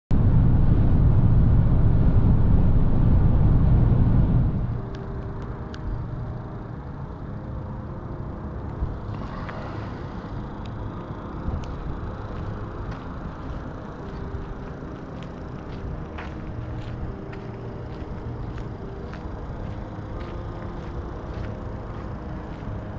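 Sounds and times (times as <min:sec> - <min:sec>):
engine and tyre rumble: 0:00.1 - 0:22.9
quiet steady hum: 0:00.1 - 0:22.9.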